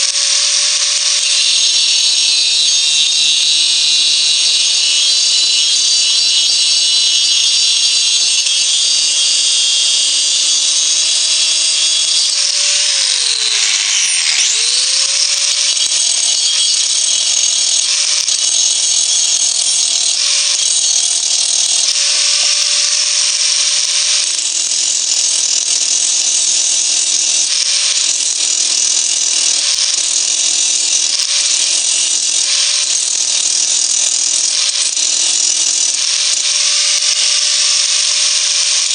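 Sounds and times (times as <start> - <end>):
angle grinder motor whining: 0.0 - 38.9
grinding disc hissing on metal: 0.0 - 38.9.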